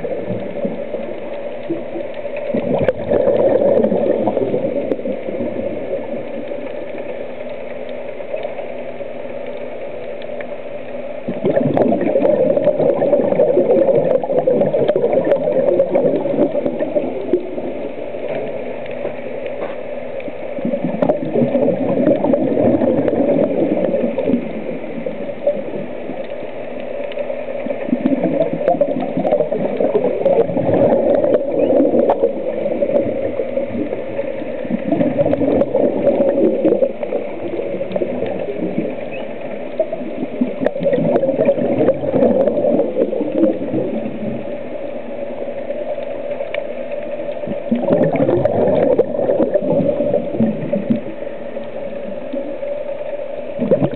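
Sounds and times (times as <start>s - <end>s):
exhaled bubbles gurgling: 0.0s - 53.9s
steady underwater drone: 0.0s - 53.9s.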